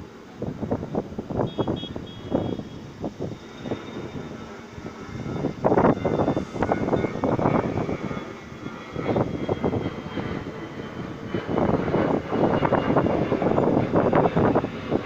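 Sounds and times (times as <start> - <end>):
faint high whine: 0.0 - 15.0
subway train rumbling on tracks: 0.0 - 15.0.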